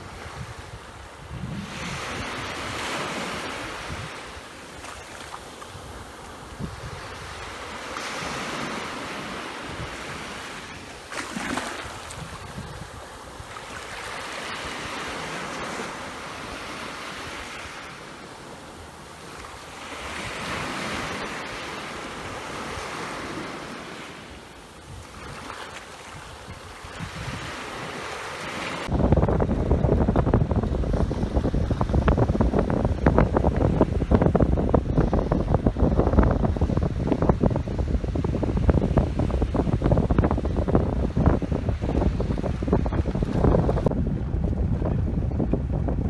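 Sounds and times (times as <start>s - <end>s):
wind buffeting microphone: 0.0s - 17.9s, 24.6s - 46.0s
sea waves breaking: 0.0s - 46.0s.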